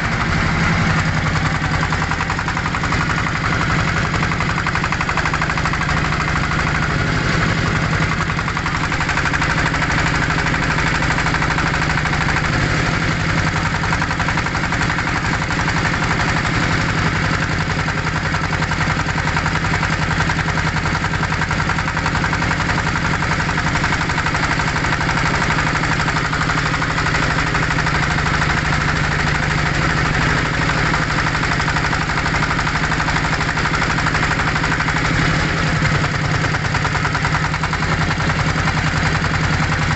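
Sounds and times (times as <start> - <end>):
motorboat engine chugging: 0.0 - 39.9.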